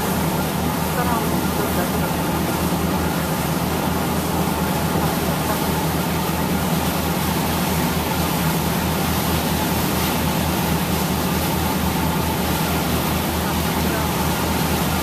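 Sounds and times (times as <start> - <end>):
boat engine throbbing: 0.0 - 15.0
churning wake water: 0.0 - 15.0.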